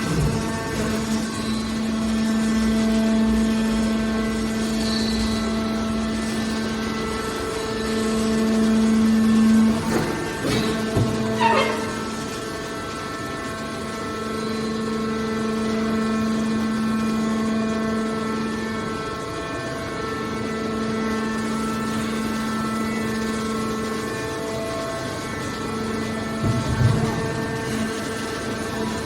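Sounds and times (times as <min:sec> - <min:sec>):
hydraulic baler droning: 0:00.0 - 0:29.0.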